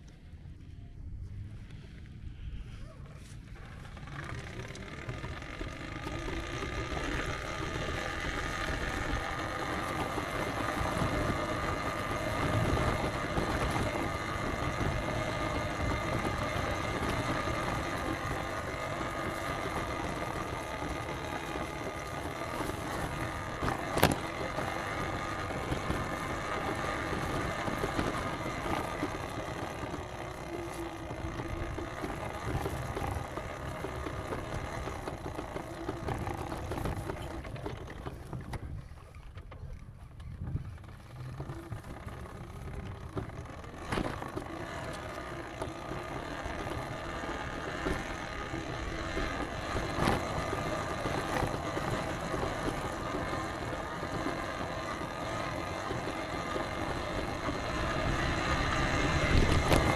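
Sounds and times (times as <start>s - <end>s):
vehicle road noise rumble: 0.0s - 59.9s.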